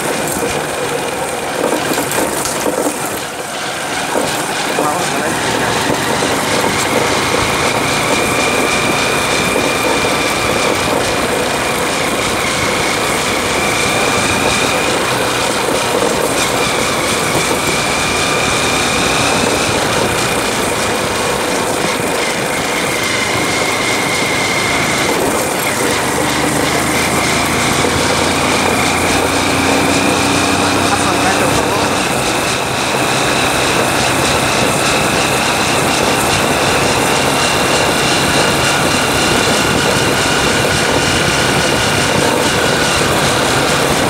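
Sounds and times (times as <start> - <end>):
motorcycle engine with high whine: 0.0 - 44.0
rushing wind and road noise: 0.0 - 44.0.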